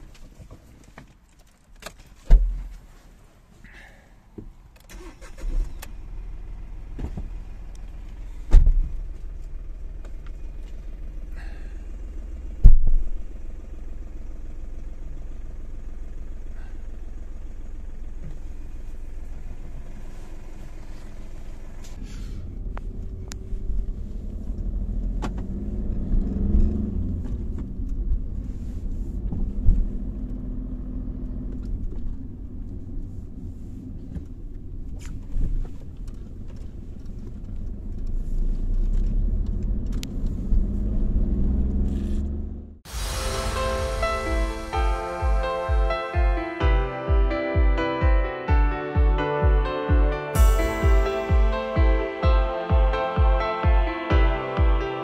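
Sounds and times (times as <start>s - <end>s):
car driving road noise: 0.0s - 48.7s
car engine idling: 2.5s - 48.2s, 49.1s - 54.9s.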